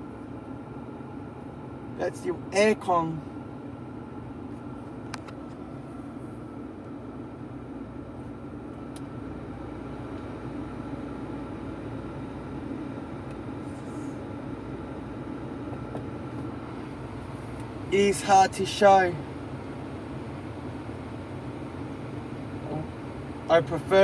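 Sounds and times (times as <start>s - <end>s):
air-conditioning fan blowing: 0.0s - 24.0s
car engine idling: 0.0s - 24.0s.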